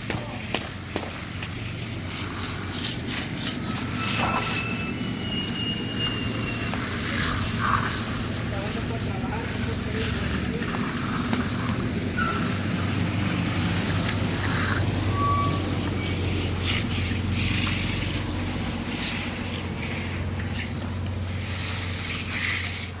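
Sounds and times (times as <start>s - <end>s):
engine running steadily: 0.0s - 23.0s
scraping or hissing noise: 0.3s - 23.0s.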